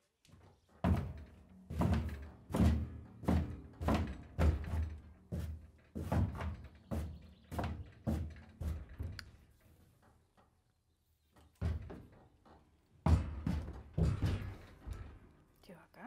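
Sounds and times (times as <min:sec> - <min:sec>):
horse hoof thumping trailer floor: 0:00.4 - 0:10.5, 0:11.5 - 0:15.5.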